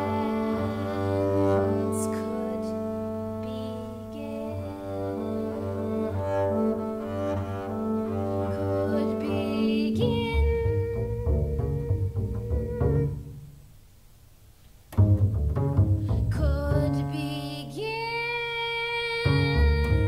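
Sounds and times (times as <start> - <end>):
bowed double bass: 0.0 - 13.6, 14.9 - 18.0, 19.2 - 20.0.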